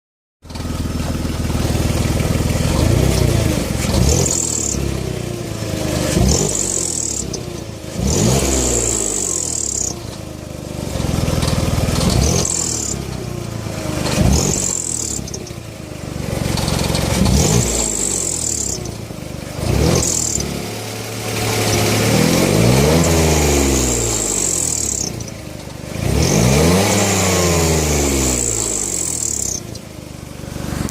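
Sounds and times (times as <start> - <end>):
car engine revving: 0.5 - 30.9.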